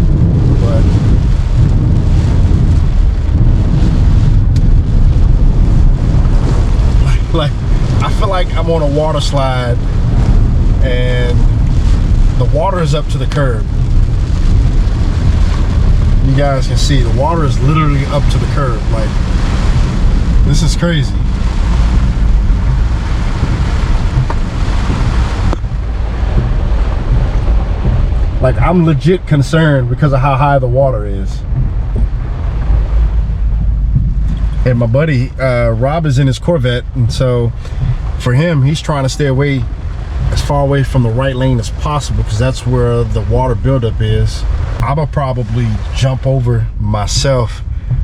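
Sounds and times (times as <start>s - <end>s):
car driving through water: 0.0s - 48.0s
heavy rain lashing car: 0.0s - 48.0s.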